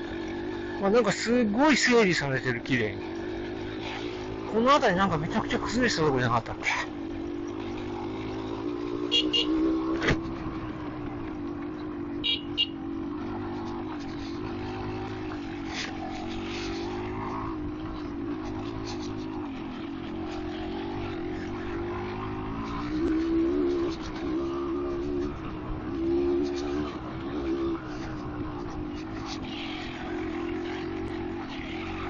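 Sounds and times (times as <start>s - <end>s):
two-stroke motorcycle engine running: 0.0s - 32.0s.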